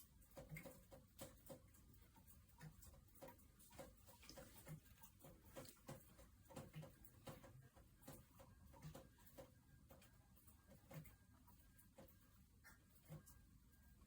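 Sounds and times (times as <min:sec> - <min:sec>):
faint irregular ticks: 0:00.0 - 0:14.0.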